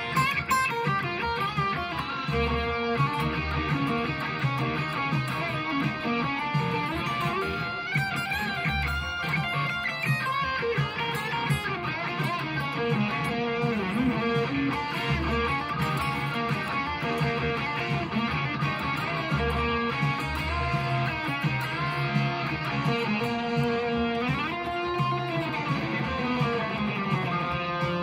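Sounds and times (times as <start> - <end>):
electric guitar playing: 0.0 - 28.0.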